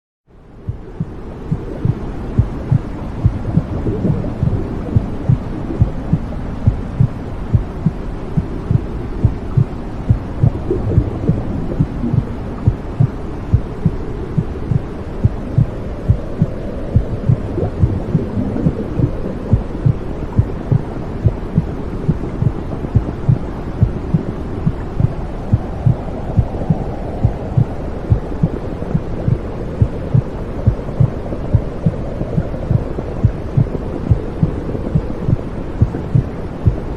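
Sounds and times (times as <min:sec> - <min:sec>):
low whooshing rumble: 0:00.6 - 0:36.9
heartbeat thumping: 0:00.7 - 0:36.9.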